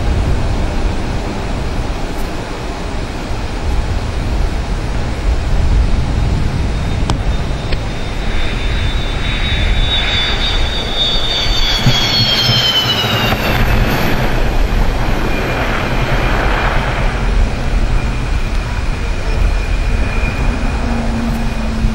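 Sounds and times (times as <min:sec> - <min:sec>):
high whine falling in pitch: 0:00.0 - 0:21.9
jet engines rumbling: 0:00.0 - 0:21.9.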